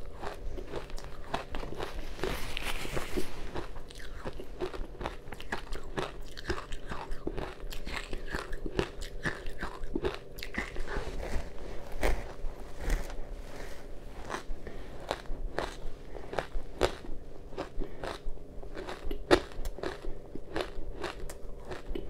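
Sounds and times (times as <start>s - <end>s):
ice crunching being chewed: 0.0s - 22.0s.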